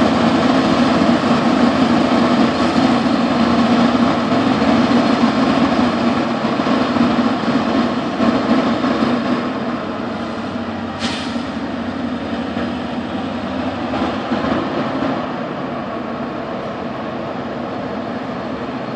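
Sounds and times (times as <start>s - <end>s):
diesel locomotive engines rumbling: 0.0s - 18.9s
train wheels rolling: 0.0s - 18.9s.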